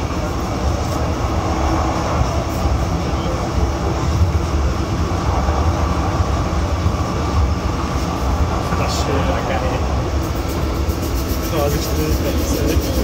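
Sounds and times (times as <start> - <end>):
tram rumbling on track: 0.0 - 13.0.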